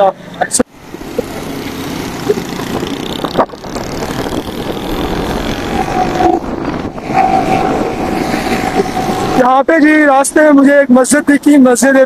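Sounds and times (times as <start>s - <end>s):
cars passing: 0.2s - 11.2s
motorcycles passing: 0.7s - 10.8s.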